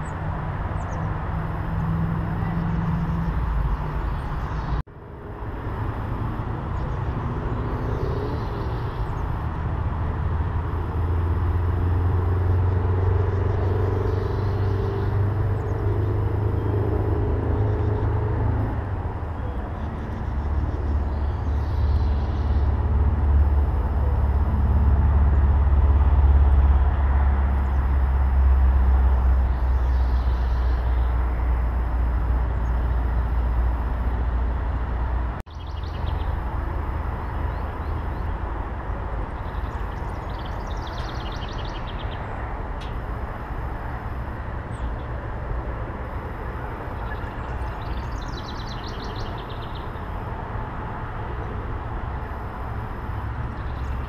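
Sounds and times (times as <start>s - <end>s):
engine low rumble: 0.0s - 54.0s.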